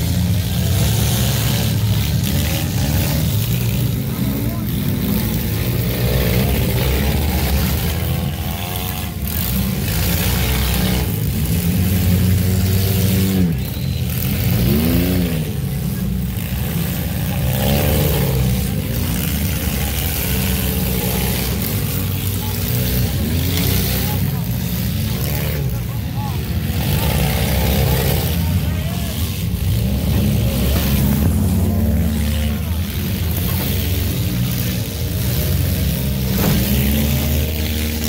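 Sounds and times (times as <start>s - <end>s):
car engine revving: 0.0s - 38.0s
loud mechanical noise: 0.0s - 38.0s.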